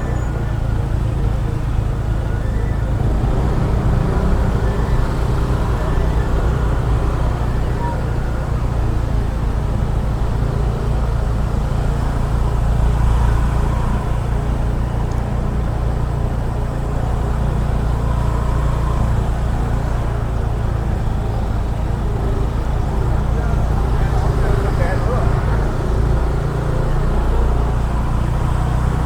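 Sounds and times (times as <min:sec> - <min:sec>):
car engine rumble: 0:00.0 - 0:29.0
road noise inside car: 0:00.0 - 0:29.0.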